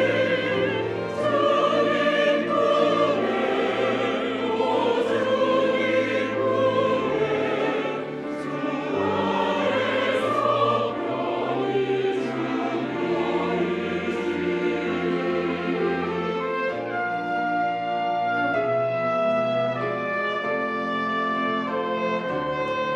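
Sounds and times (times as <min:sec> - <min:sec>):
church choir singing: 0:00.0 - 0:22.9
organ notes: 0:00.0 - 0:22.9
piano: 0:00.0 - 0:22.9.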